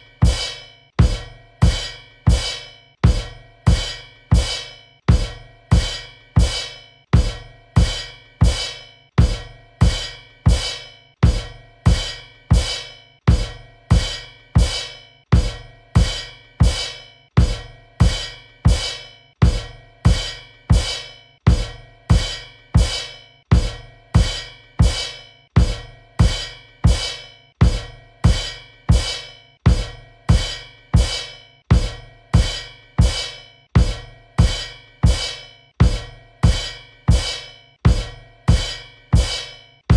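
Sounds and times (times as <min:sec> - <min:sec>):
bass drum and cymbal hits: 0:00.0 - 0:39.9.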